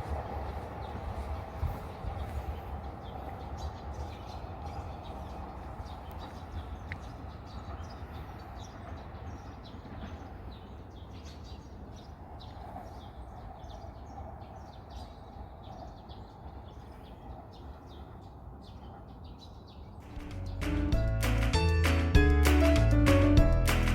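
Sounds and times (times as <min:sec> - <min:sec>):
small birds chirping: 0:00.0 - 0:21.0
low city hum: 0:00.0 - 0:23.9.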